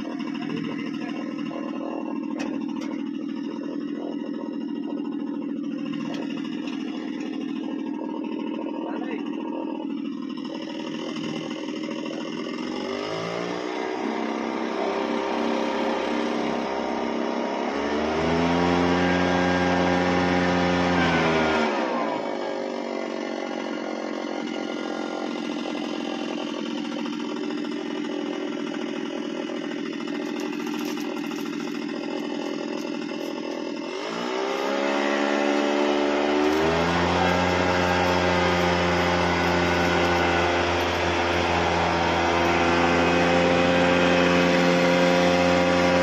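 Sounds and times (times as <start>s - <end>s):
leaf blower engine revving: 0.0s - 46.0s.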